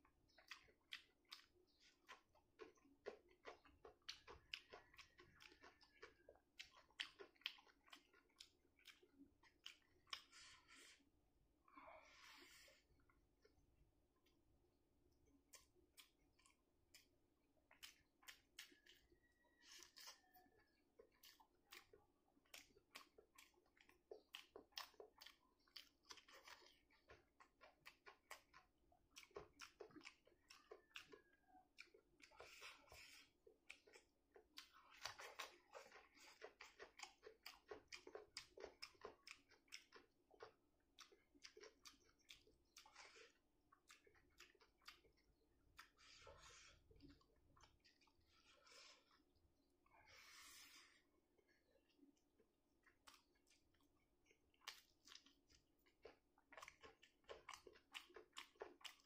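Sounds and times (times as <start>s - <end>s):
chewing and lip-smacking: 0.0s - 11.5s, 12.1s - 59.0s.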